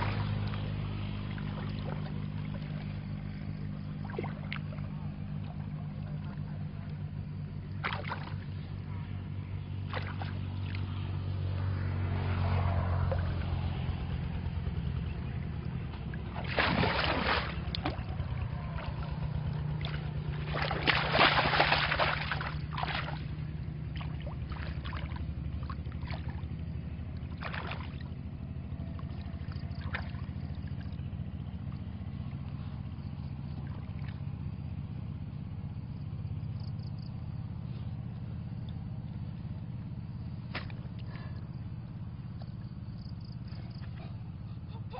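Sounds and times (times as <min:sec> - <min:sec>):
muddy water splashing and sloshing: 0:00.0 - 0:44.9
steady low hum: 0:00.0 - 0:44.9.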